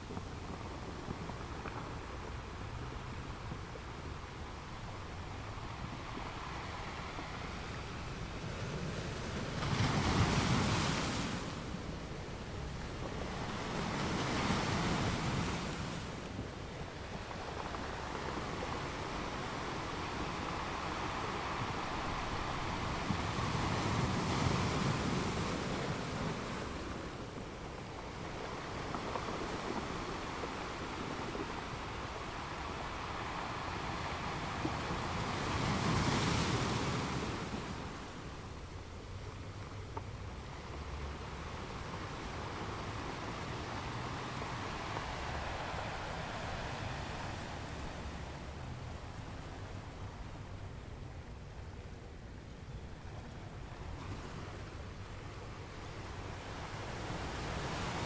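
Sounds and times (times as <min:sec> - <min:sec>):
sea waves washing: 0:00.0 - 0:58.0.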